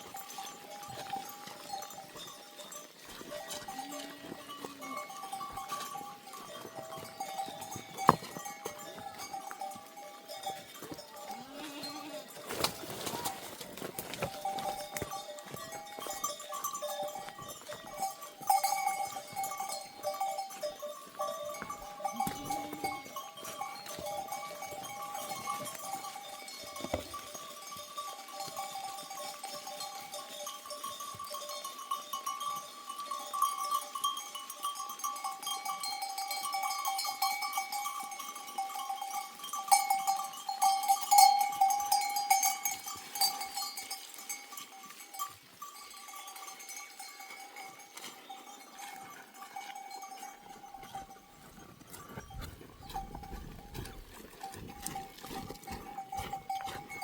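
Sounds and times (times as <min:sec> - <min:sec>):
goat bells clanking: 0:00.0 - 0:57.0.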